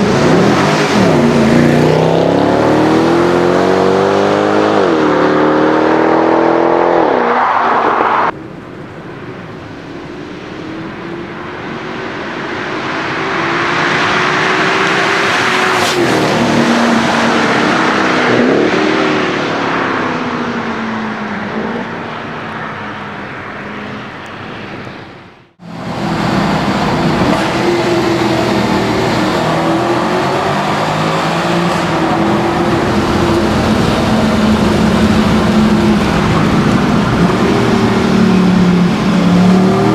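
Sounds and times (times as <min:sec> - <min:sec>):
car engine revving and driving: 0:00.0 - 0:39.9.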